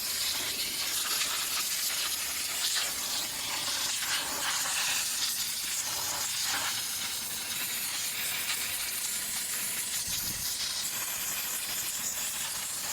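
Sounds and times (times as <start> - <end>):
steam cleaner jet hissing: 0.0 - 12.9.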